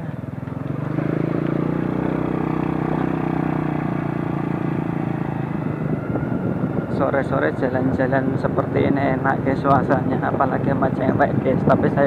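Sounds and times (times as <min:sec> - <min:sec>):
road and wind noise: 0:00.0 - 0:12.0
small motorcycle engine running: 0:00.0 - 0:12.0.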